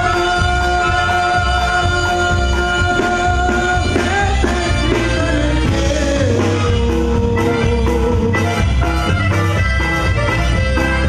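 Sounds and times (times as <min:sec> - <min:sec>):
male singer: 0:00.0 - 0:09.1
bass and drum beat: 0:00.0 - 0:11.0
live band playing: 0:00.0 - 0:11.0.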